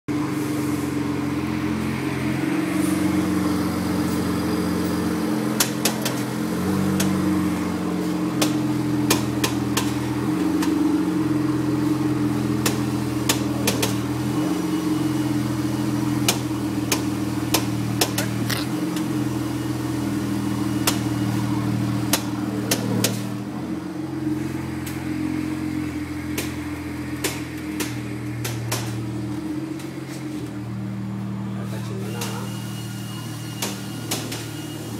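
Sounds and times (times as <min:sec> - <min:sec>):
steady engine hum: 0:00.1 - 0:34.9.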